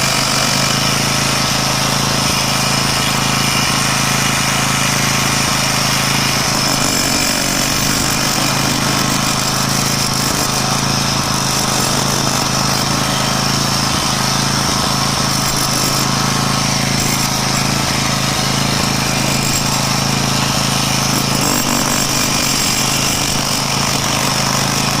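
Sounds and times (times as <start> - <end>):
jackhammer hammering: 0.0 - 25.0.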